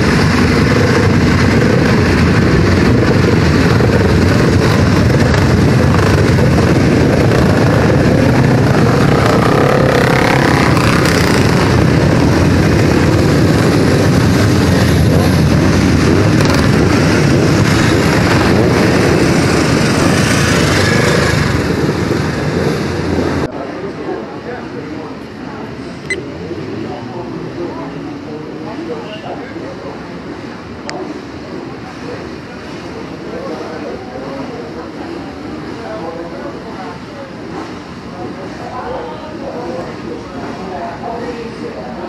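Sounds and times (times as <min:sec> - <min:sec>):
motorcycle engines revving: 0:00.0 - 0:34.6.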